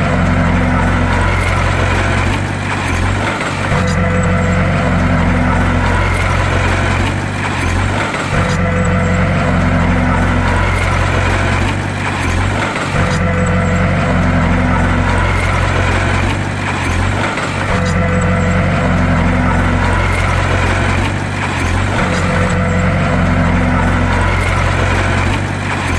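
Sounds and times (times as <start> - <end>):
bulldozer diesel engine running: 0.0 - 25.9.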